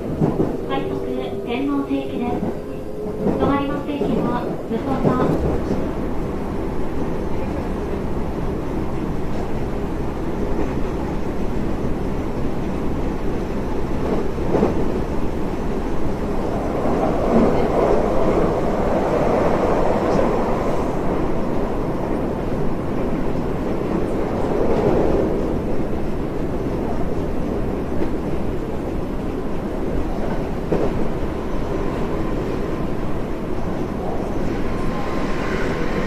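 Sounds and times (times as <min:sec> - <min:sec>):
train rumbling at speed: 0:00.0 - 0:36.0.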